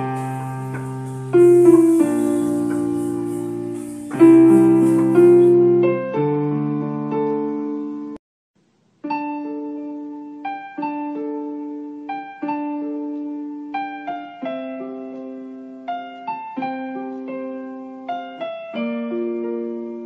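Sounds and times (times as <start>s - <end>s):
slow piano-like keyboard melody: 0.0s - 8.2s, 8.8s - 20.0s.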